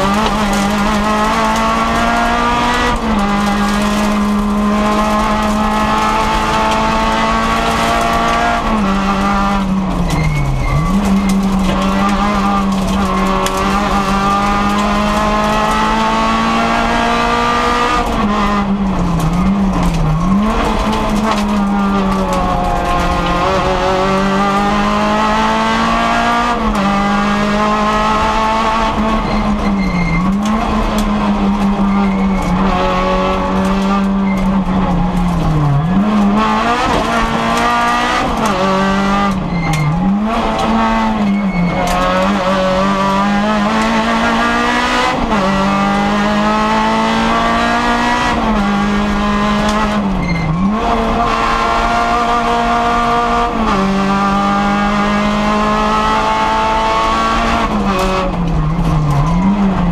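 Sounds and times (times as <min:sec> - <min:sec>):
car engine at high revs: 0:00.0 - 0:59.9.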